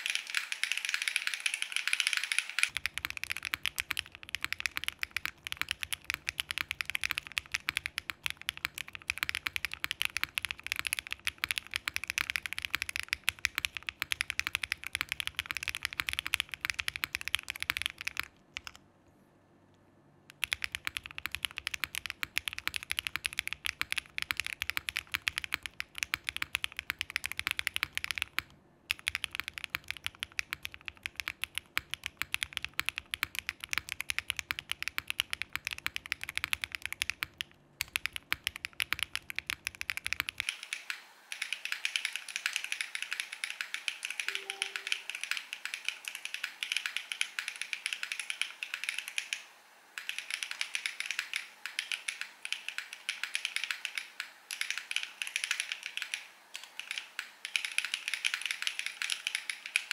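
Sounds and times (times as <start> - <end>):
mechanical keyboard typing: 0.0 - 18.8, 20.3 - 59.9.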